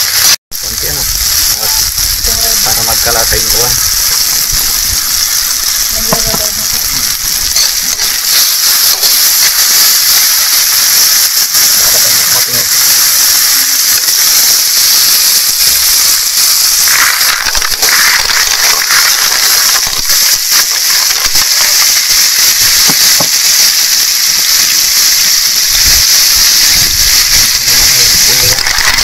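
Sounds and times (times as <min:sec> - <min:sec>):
shellfish sizzling in a pan: 0:00.0 - 0:29.0.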